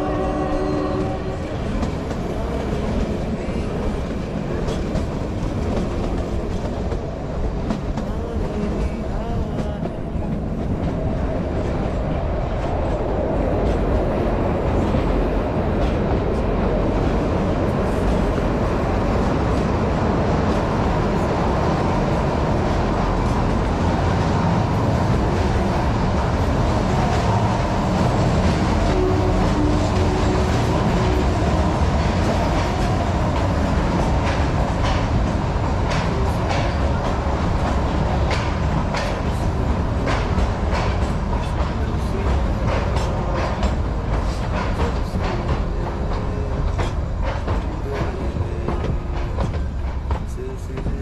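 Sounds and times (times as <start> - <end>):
train carriages rattling on rails: 0.0 - 51.0.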